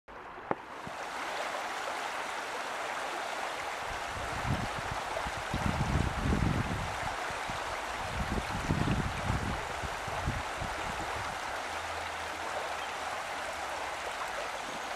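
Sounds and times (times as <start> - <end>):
river water rushing over stones: 0.1 - 14.9.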